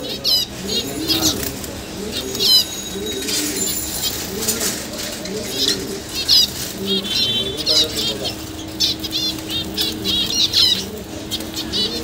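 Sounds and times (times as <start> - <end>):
parrots chirping and chattering: 0.0 - 12.0.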